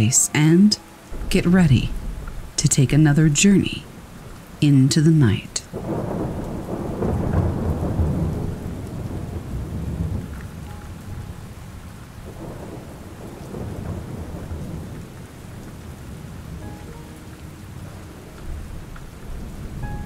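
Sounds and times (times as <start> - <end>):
steady rainfall: 0.0 - 20.0
thunder rolling: 1.1 - 4.6, 5.7 - 20.0.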